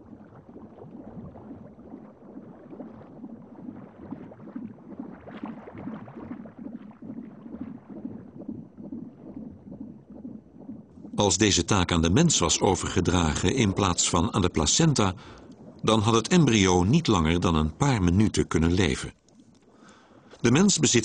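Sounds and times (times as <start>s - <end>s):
liquid bubbling and gurgling: 0.0s - 21.0s.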